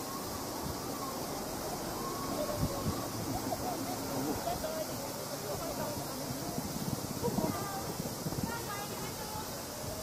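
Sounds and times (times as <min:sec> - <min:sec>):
faint voices: 0:00.0 - 0:10.0
outdoor hiss: 0:00.0 - 0:10.0.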